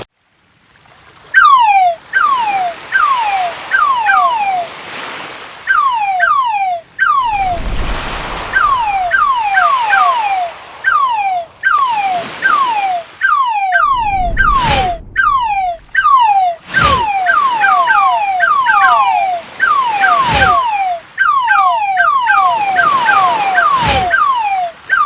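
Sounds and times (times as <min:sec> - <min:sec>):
surf-like wash: 0:00.4 - 0:25.0
falling whistle chirps: 0:01.4 - 0:05.0, 0:05.6 - 0:25.0.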